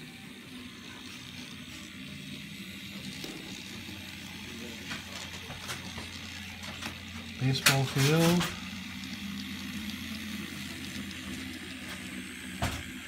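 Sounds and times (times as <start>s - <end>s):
model train motor hum: 0.0s - 13.0s.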